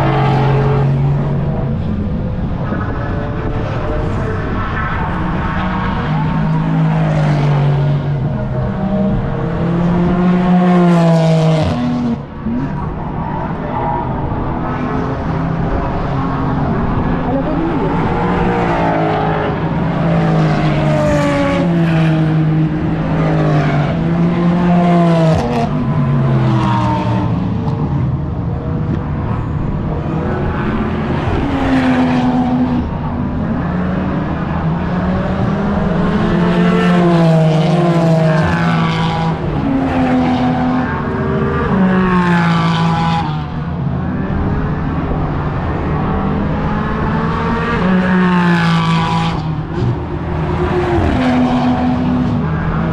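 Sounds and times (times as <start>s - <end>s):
race car engines passing: 0.0s - 52.9s.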